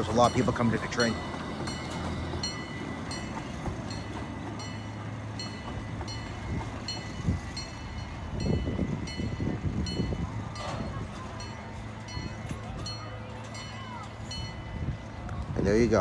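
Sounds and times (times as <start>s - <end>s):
miniature train locomotive humming: 0.0s - 16.0s.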